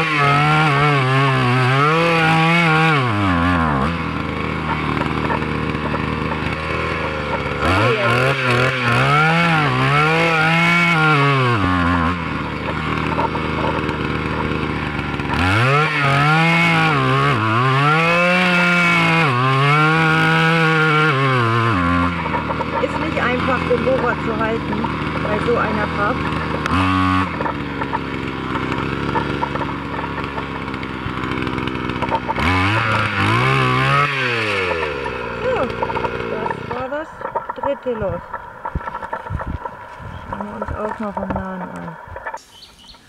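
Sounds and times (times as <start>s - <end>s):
earth auger engine revving: 0.0s - 43.0s.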